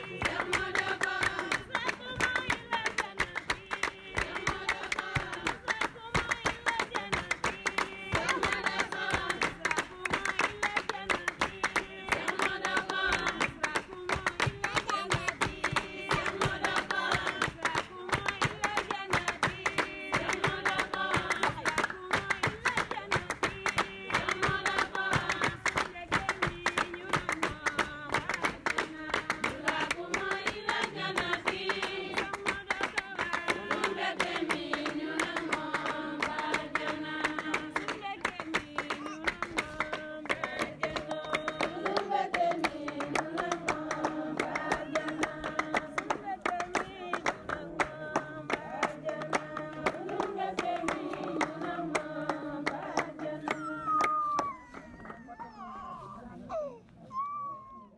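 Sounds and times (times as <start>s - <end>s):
person singing: 0.0s - 34.4s, 35.0s - 49.9s, 50.6s - 56.8s.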